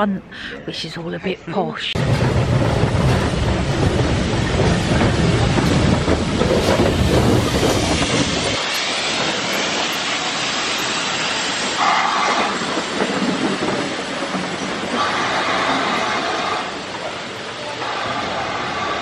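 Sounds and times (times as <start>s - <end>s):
steam locomotive rumbling past: 1.9s - 19.0s
train wheels clacking over rail joints: 2.0s - 19.0s.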